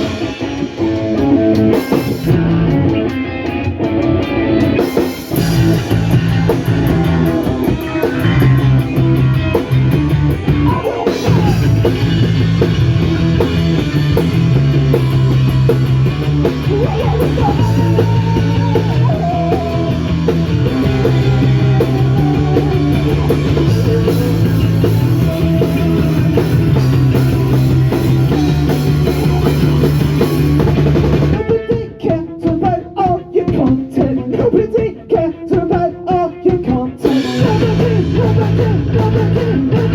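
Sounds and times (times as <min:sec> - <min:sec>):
bass guitar: 0:00.0 - 0:39.9
distorted electric guitar: 0:00.0 - 0:39.9
drum kit: 0:00.0 - 0:39.9
punk band playing live: 0:00.0 - 0:39.9.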